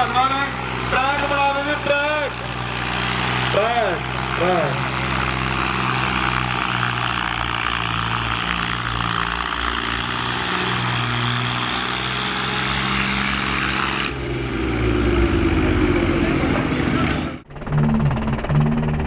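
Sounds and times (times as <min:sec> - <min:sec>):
tractor engine running: 0:00.0 - 0:17.5.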